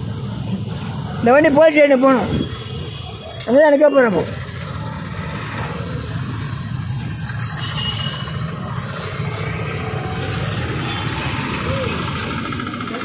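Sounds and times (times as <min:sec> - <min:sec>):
road traffic engine rumble: 0:00.0 - 0:13.0.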